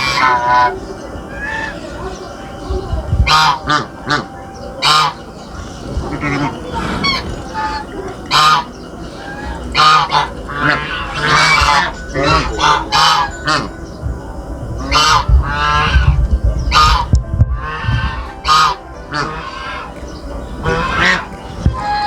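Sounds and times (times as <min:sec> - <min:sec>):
waterfowl honking: 0:00.0 - 0:13.9, 0:14.8 - 0:22.0.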